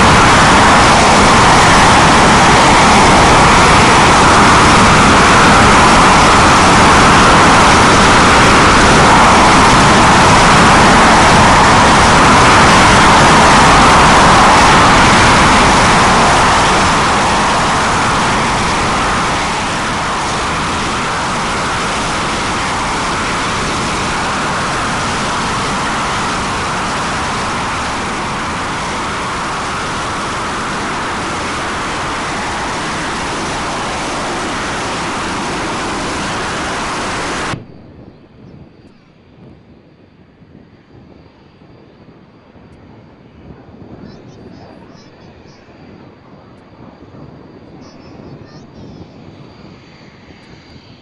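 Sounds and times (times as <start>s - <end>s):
jet engines rushing: 0.0s - 51.0s.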